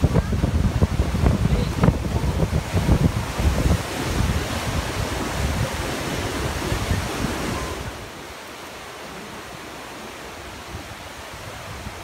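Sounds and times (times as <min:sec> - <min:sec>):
whitewater rushing over boulders: 0:00.0 - 0:12.0
wind buffeting microphone: 0:00.0 - 0:12.0.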